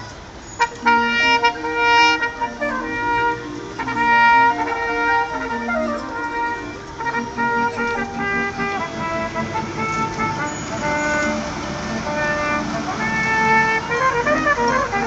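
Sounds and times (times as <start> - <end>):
barrel organ playing a tune: 0.6 - 15.0.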